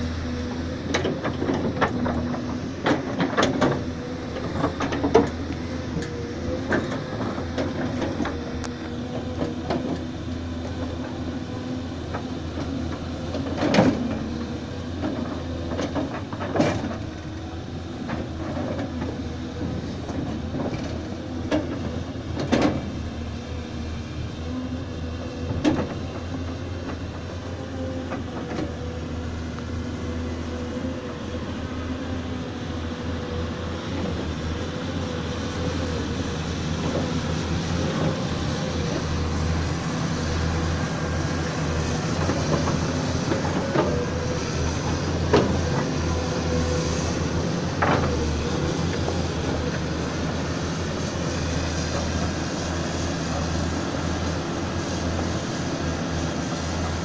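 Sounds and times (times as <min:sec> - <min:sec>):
excavator diesel engines running: 0:00.0 - 0:57.0.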